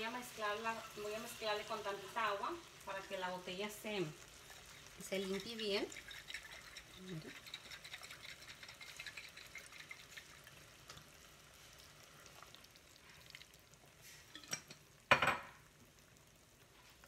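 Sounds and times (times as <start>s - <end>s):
cream sauce sizzling in a saucepan: 0.0s - 17.0s.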